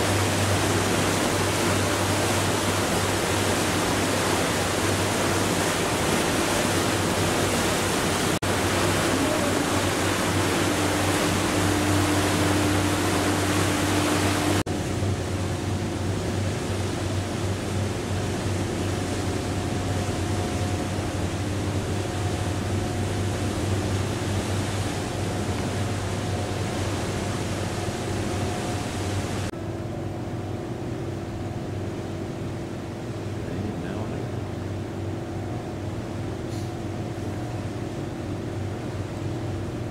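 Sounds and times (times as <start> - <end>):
ship machinery hum: 0.0 - 39.9.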